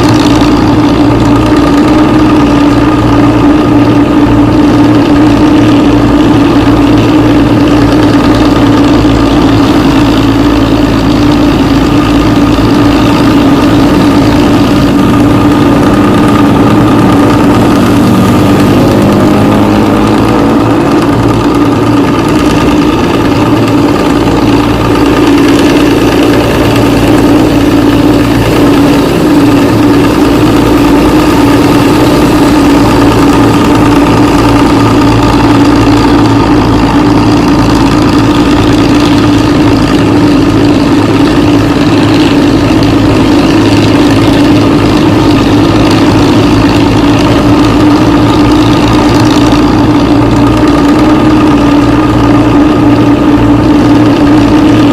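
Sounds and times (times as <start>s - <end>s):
bus diesel engine idling: 0.0s - 54.9s.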